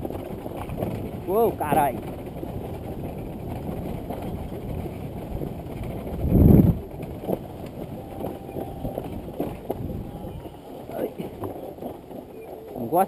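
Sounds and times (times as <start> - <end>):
wind on microphone: 0.0 - 12.2
dirt bike engine rumbling: 0.0 - 13.0.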